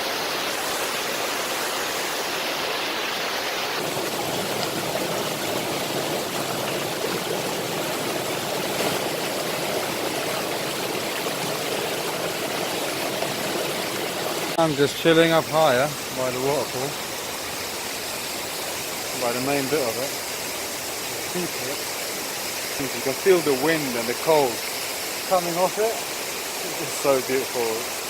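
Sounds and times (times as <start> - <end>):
waterfall rushing over rocks: 0.0 - 28.0.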